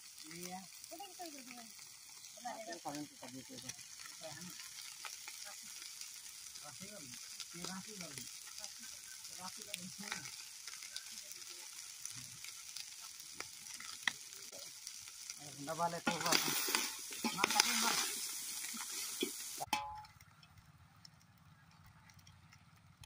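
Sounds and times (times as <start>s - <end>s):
chicken sizzling in a pot: 0.0s - 23.0s.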